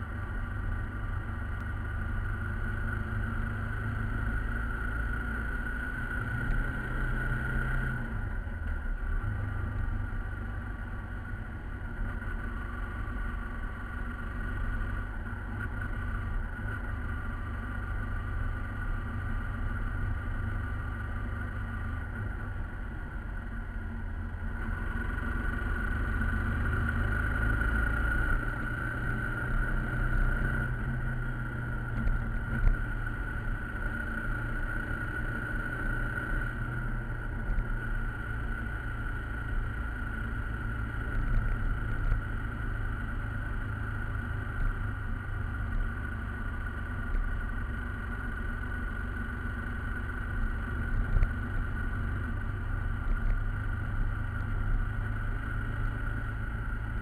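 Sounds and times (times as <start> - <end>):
motorcycle engine and road rumble: 0.0 - 57.0.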